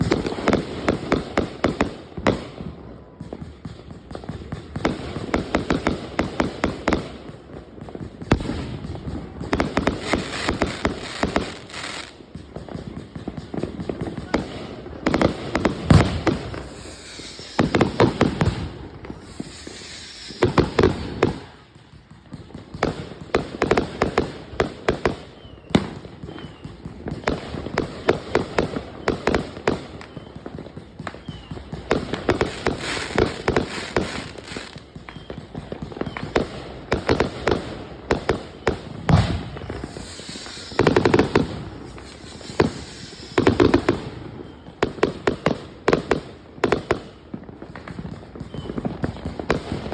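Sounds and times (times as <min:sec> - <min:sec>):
firework cracks and bangs: 0:00.0 - 0:49.9.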